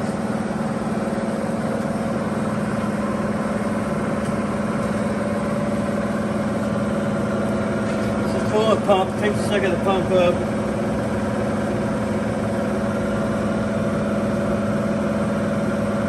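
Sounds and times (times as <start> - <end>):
pump motor humming: 0.0 - 16.0.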